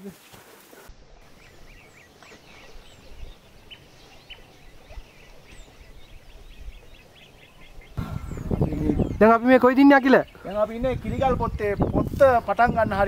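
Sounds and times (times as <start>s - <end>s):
birds chirping: 0.9s - 13.0s.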